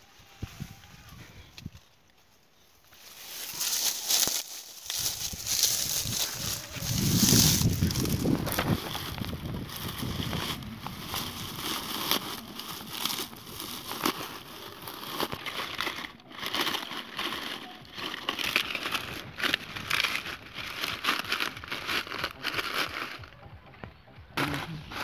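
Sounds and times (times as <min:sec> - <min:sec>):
dry leaves crackling and rustling: 0:01.8 - 0:23.4, 0:24.4 - 0:25.0.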